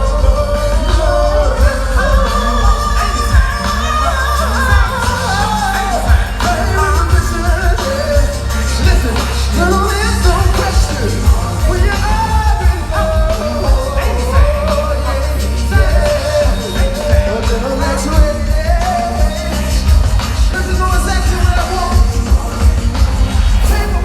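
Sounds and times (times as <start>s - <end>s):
heavy bass beat: 0.0s - 24.0s
person singing: 0.0s - 24.0s.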